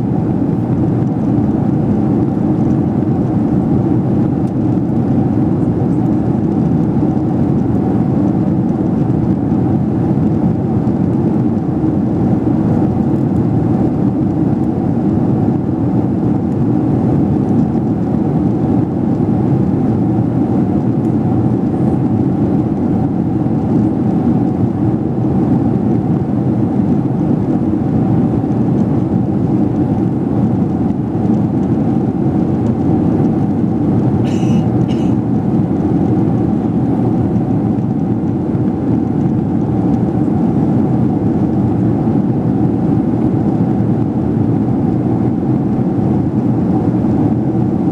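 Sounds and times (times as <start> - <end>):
airliner cabin engine rush: 0.0 - 47.9
faint steady hum: 0.0 - 47.9.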